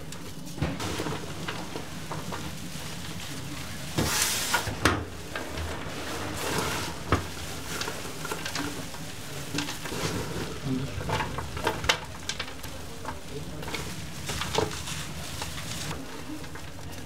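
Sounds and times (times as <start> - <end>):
rustling of tossed onions: 0.0 - 17.0.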